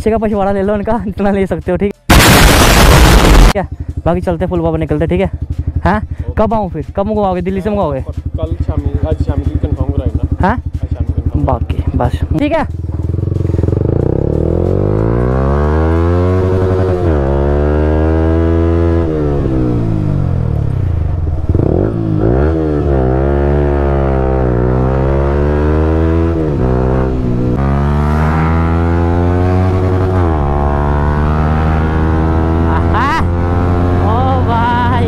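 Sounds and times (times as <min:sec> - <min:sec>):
motorcycle engine accelerating: 0:02.1 - 0:06.2, 0:07.3 - 0:35.0.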